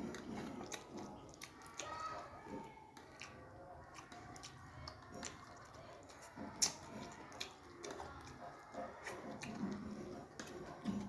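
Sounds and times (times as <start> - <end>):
wet chewing noodles: 0.0 - 11.0.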